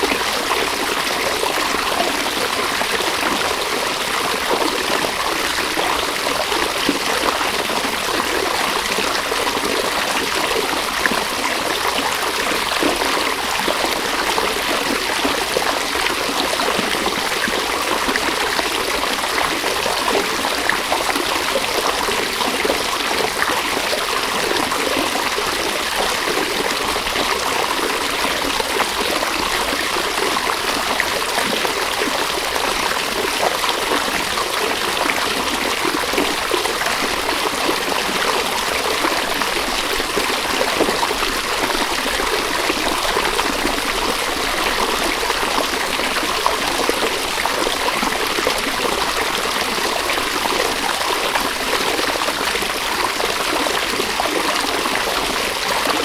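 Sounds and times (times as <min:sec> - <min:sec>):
river water running over stones: 0:00.0 - 0:56.0.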